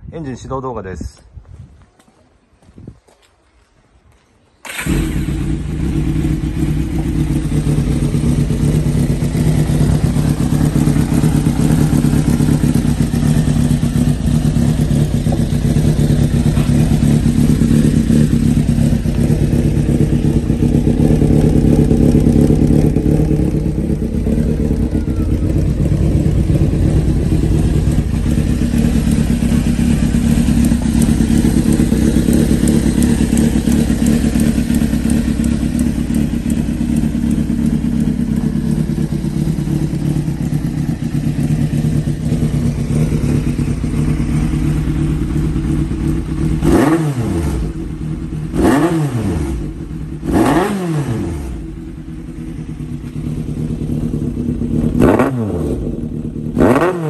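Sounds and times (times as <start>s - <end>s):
motorcycle engine idling: 4.6s - 57.0s.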